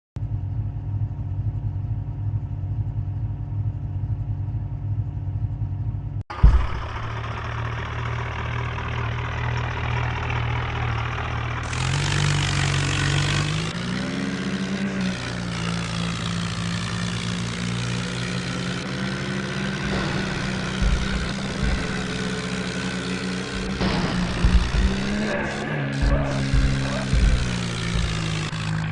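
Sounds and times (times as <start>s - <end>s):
tractor engine running and revving: 0.2s - 28.9s.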